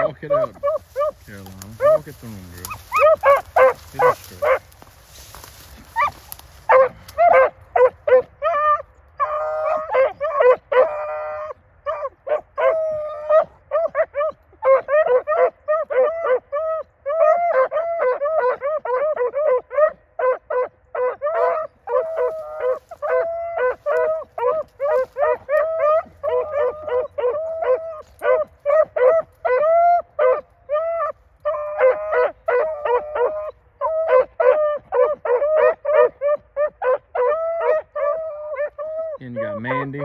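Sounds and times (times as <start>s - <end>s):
hounds baying: 0.0s - 40.0s.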